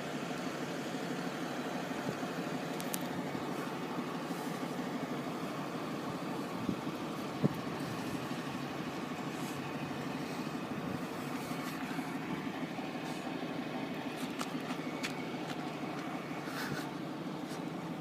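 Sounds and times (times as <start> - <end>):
outdoor noise: 0.0 - 18.0
vehicle engine idling: 0.0 - 18.0.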